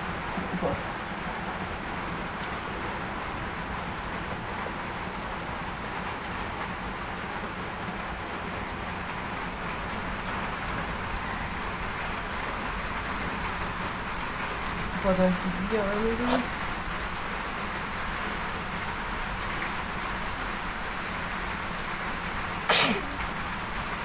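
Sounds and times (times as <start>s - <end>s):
rain falling steadily: 0.0s - 24.0s.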